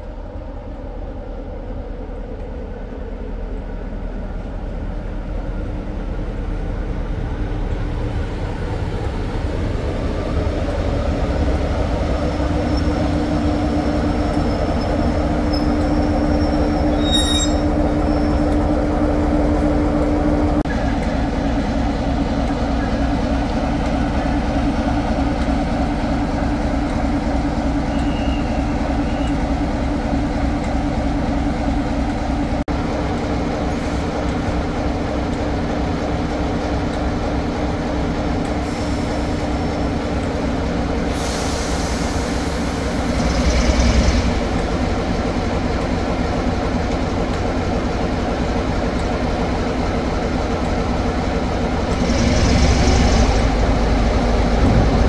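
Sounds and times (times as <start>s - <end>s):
train mechanical hum: 0.0s - 55.0s.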